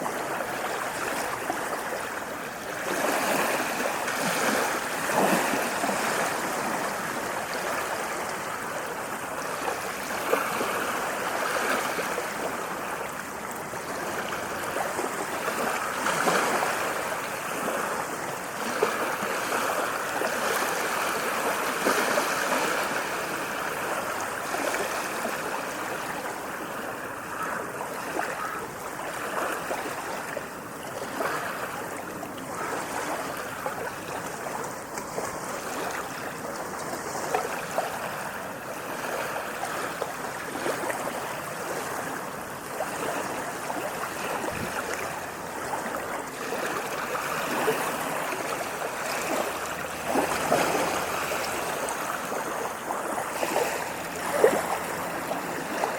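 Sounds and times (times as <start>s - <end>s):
water splashing and gurgling: 0.0s - 55.9s.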